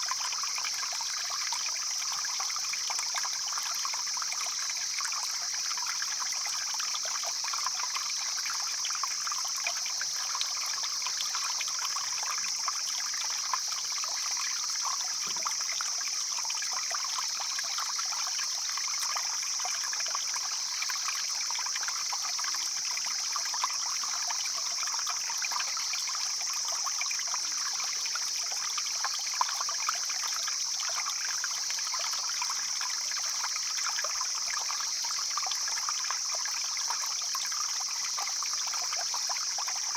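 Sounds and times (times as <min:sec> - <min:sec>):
stream flowing and splashing: 0:00.0 - 0:39.9.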